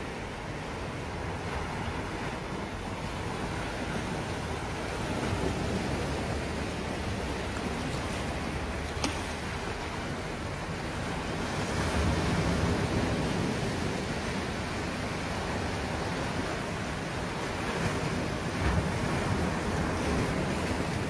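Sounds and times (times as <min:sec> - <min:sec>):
waves breaking over rocks: 0:00.0 - 0:21.0.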